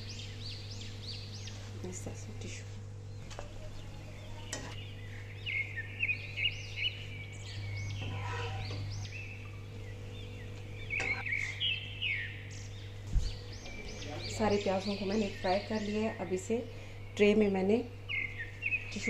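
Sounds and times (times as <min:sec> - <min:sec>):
low hum: 0:00.0 - 0:19.0
small birds chirping: 0:00.0 - 0:19.0.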